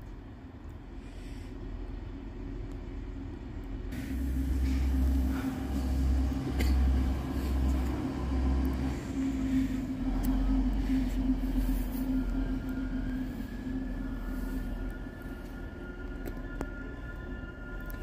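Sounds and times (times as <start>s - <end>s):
train passing with low drone: 0.0s - 18.0s.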